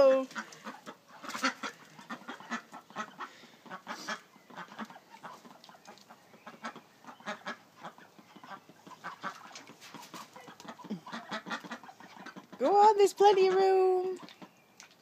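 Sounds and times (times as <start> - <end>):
ducklings quacking: 0.0 - 14.6.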